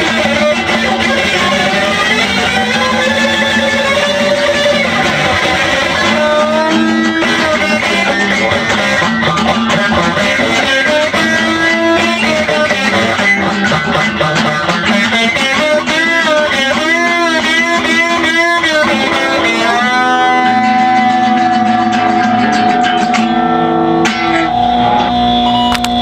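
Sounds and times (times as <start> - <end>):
electric guitar fast strumming: 0.0 - 26.0.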